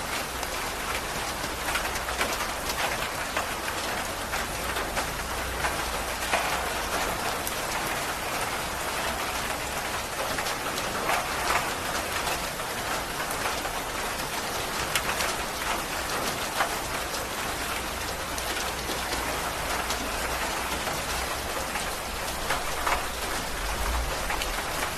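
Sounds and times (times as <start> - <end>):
heavy rain on foliage: 0.0 - 24.9.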